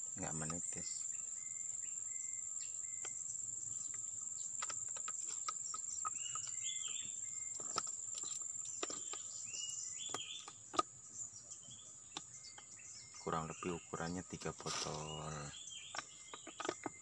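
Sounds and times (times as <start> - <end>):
bird chirps: 0.0 - 17.0
insects chirring: 0.0 - 17.0.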